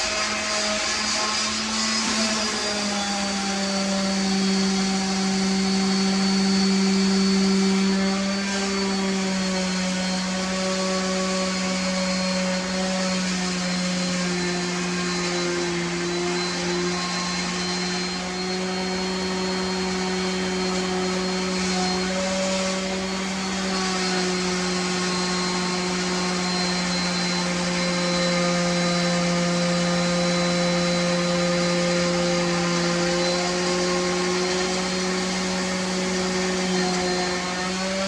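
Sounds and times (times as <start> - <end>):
electric motor humming: 0.0 - 38.0.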